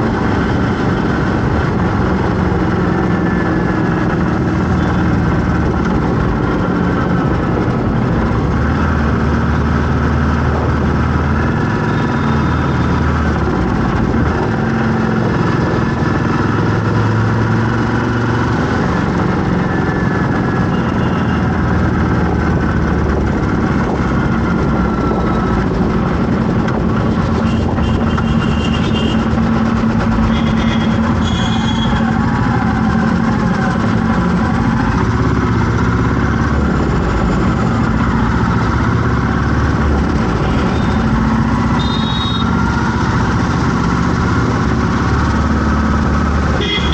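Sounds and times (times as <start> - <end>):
vehicle engines running: 0.0 - 46.9.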